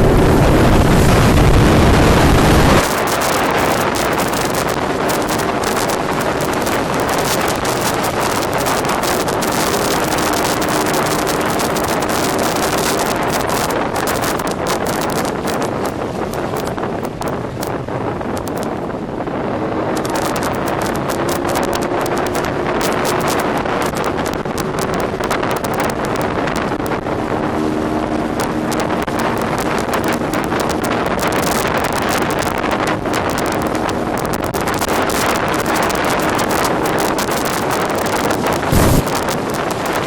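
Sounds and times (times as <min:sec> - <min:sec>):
speedboat engine humming: 0:00.0 - 0:40.0
wind buffeting microphone: 0:00.0 - 0:40.0.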